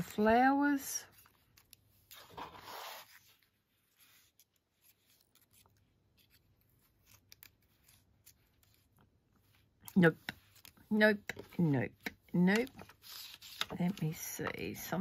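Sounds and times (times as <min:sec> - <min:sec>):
paper rustling: 0:01.1 - 0:15.0.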